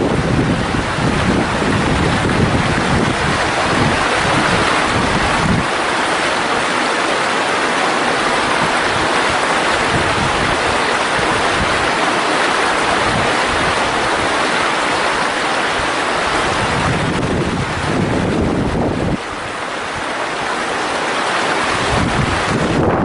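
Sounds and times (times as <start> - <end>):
stream flowing: 0.0 - 23.0.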